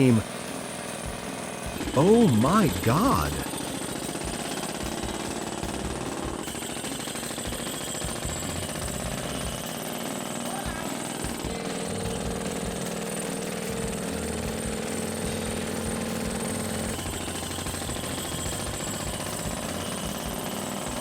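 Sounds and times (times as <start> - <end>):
rock drill hammering: 0.0 - 21.0
steady machine hum: 0.0 - 21.0.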